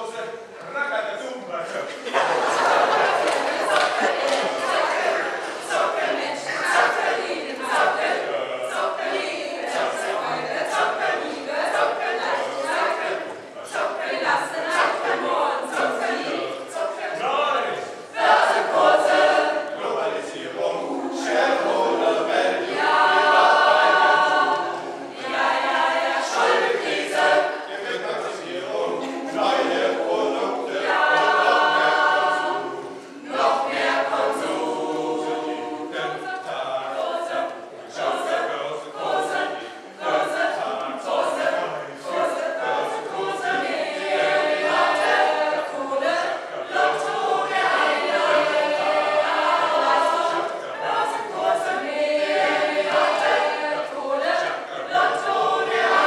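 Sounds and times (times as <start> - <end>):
mixed choir singing: 1.6 - 56.0.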